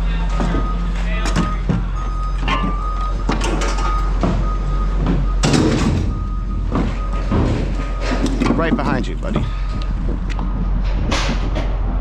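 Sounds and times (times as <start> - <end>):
reversing alarm beeping: 0.0 - 10.9
truck engine running: 0.0 - 12.0
metal knocks: 0.4 - 11.8.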